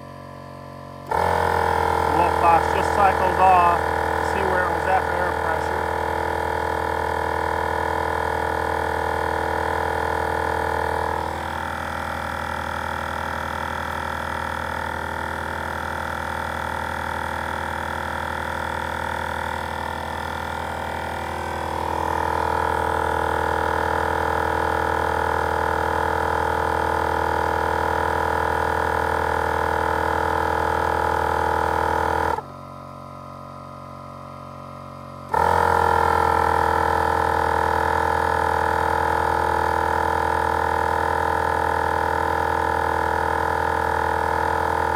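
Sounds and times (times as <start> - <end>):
air compressors running: 0.0 - 44.9.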